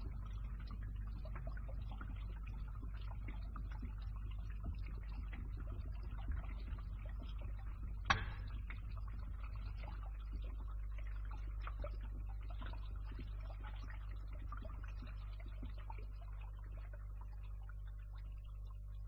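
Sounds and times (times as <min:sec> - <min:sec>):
pump humming: 0:00.0 - 0:19.0
small ticks and drips: 0:00.0 - 0:19.0
water draining in a pipe: 0:00.0 - 0:19.0.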